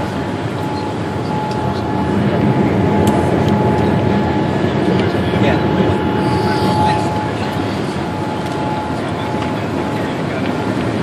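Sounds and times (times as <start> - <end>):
jet engines and airflow rushing: 0.0 - 11.0
thin steady whine: 0.0 - 11.0.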